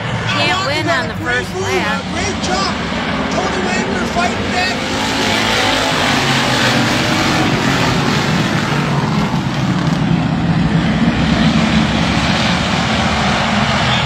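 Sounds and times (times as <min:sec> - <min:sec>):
stock car engines racing: 0:00.0 - 0:14.0.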